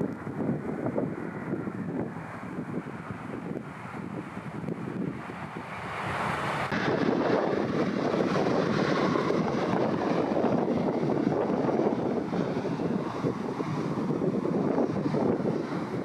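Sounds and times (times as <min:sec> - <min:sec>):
aircraft engine noise: 0:00.0 - 0:16.0
wind buffeting microphone: 0:00.0 - 0:16.0.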